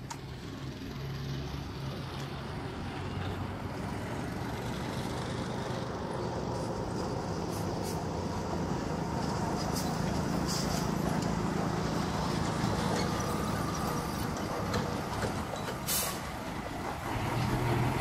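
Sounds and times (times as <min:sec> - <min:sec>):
vehicle engine approaching: 0:00.0 - 0:18.0.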